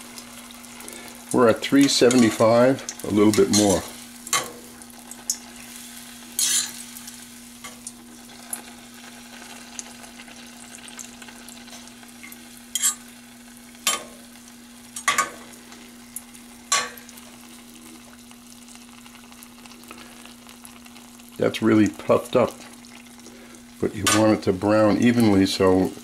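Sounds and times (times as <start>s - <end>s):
deep-frying sizzle: 0.0s - 26.0s.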